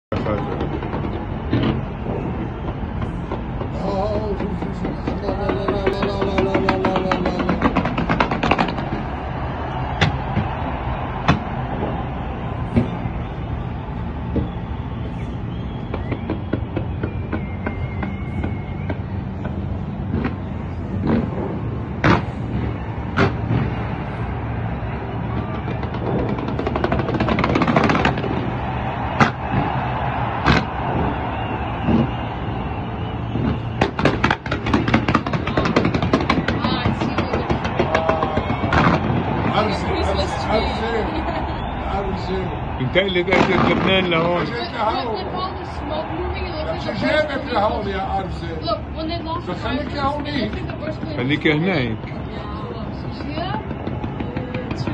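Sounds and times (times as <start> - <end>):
steady noisy din: 0.0 - 54.9
fireworks bangs: 0.1 - 54.9
steady rushing noise: 0.2 - 54.9.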